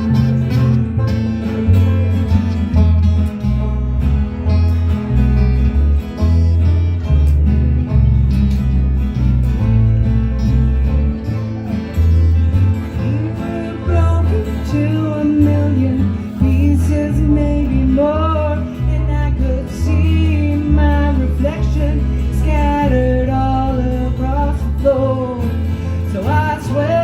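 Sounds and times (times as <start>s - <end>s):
bass line: 0.0s - 27.0s
live country band: 0.0s - 27.0s.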